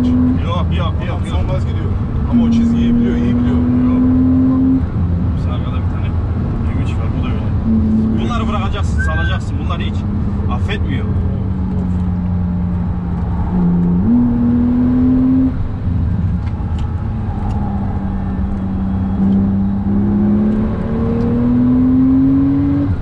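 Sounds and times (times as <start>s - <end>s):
road rumble: 0.0s - 23.0s
sports car engine: 0.0s - 23.0s.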